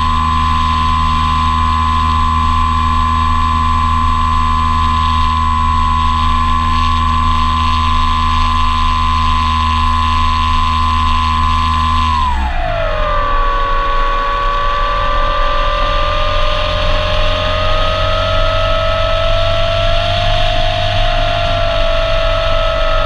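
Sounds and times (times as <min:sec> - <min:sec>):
electric motor and propeller whine: 0:00.0 - 0:23.0.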